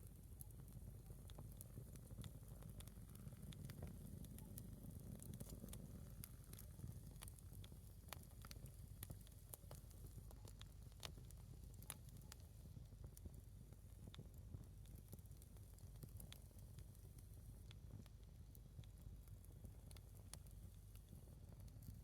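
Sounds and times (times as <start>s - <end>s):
firewood crackling and popping: 0.4s - 22.0s.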